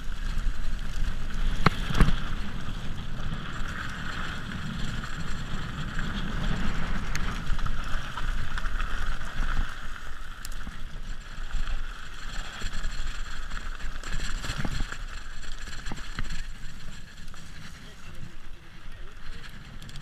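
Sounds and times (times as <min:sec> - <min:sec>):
bike clicks and rattles: 0:00.0 - 0:20.0
tyres rolling on dirt and stones: 0:00.0 - 0:20.0.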